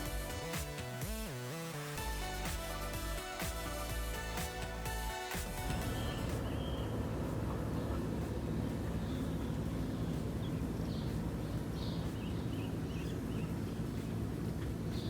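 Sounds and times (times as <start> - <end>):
low drone: 1.8 - 14.6.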